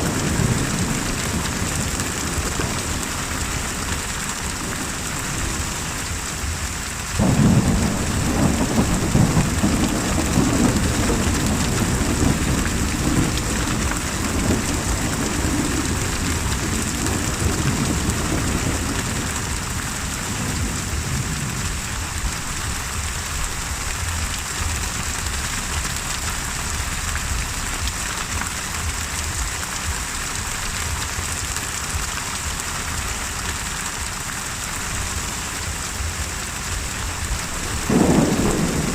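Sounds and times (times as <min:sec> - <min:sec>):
thunder crack and rumble: 0:00.0 - 0:32.6, 0:34.8 - 0:38.9
steady rain: 0:00.0 - 0:38.9.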